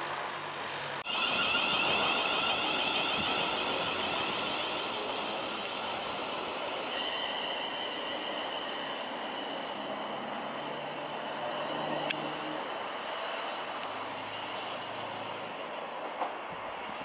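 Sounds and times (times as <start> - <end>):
electric train running: 1.0 - 16.3.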